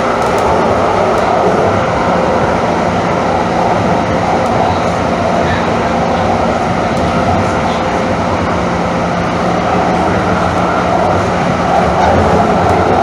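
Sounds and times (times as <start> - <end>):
light rail car rumbling: 0.0 - 13.0
low hum: 0.0 - 13.0.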